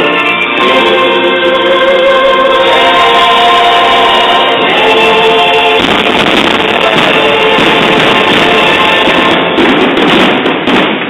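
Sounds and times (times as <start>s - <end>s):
music with long held notes: 0.0s - 10.0s
dense noisy sound: 0.0s - 11.0s.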